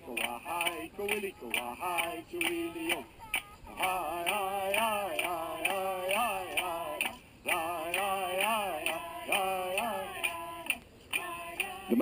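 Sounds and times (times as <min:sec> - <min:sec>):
sharp clicks beat: 0:00.1 - 0:11.9.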